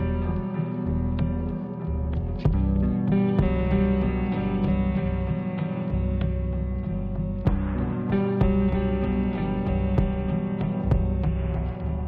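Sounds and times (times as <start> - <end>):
plucked guitar music: 0.0 - 12.0
steady bass line: 0.0 - 12.0.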